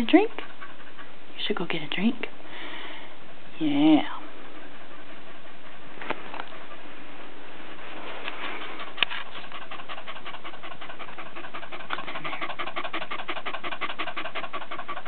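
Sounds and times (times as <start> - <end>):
dog panting rapidly: 0.0 - 2.3, 3.3 - 15.0.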